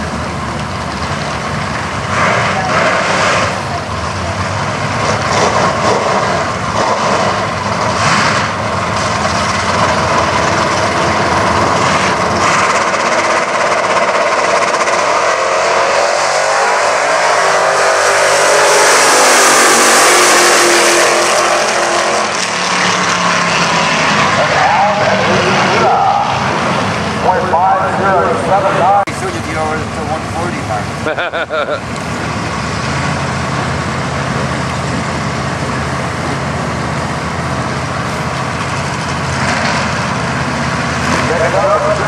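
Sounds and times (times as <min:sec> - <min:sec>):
drag racing engines revving: 0:00.0 - 0:42.0.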